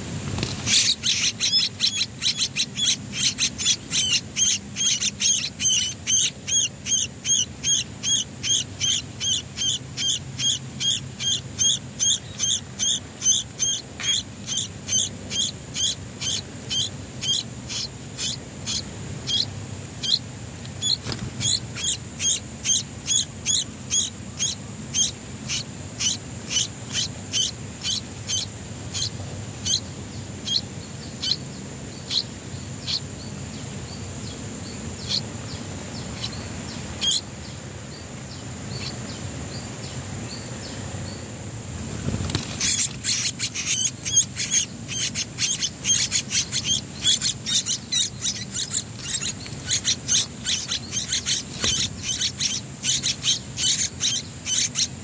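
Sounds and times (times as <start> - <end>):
nestlings chirping: 0.2 - 55.0.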